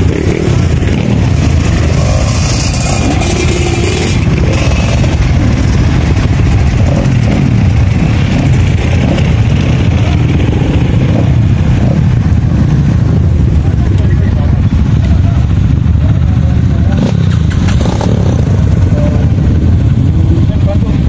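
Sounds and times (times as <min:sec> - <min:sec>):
motorcycle engines running: 0:00.0 - 0:21.0.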